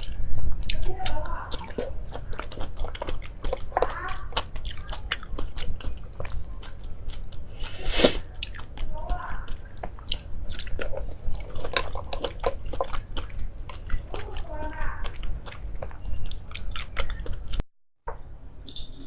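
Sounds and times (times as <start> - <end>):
person chewing food: 0.0 - 17.6.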